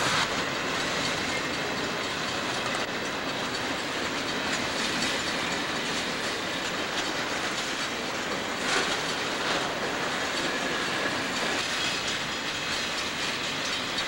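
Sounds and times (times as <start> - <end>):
freight train wheels on rails: 0.0 - 14.0.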